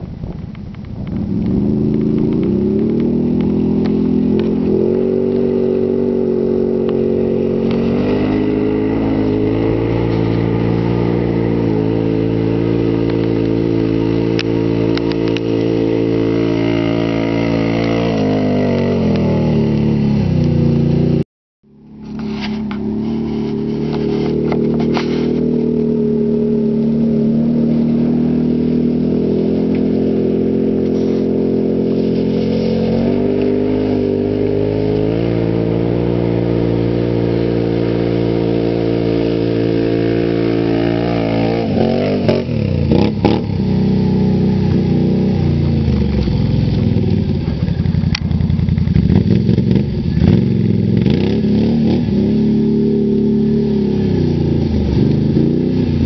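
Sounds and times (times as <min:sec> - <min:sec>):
atv engine revving: 0:01.1 - 0:21.2, 0:21.8 - 0:56.0.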